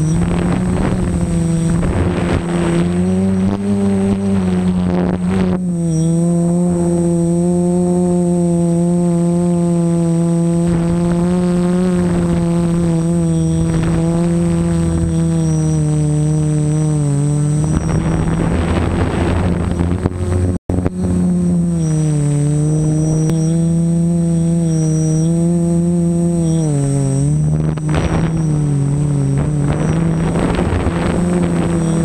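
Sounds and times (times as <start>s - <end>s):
drone propellers humming: 0.0s - 32.0s
wind noise: 0.0s - 32.0s.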